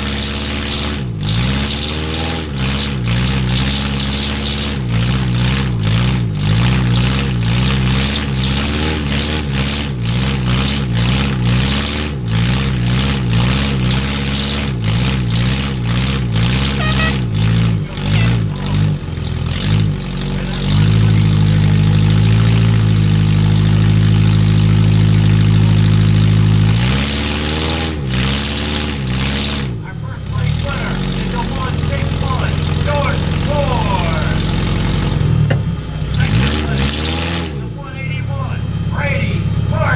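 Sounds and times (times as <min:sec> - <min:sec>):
vehicle engines revving: 0:00.0 - 0:39.9.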